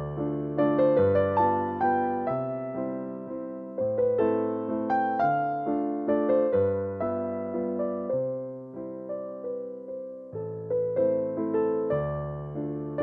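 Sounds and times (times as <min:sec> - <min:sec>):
piano waltz: 0:00.0 - 0:13.0.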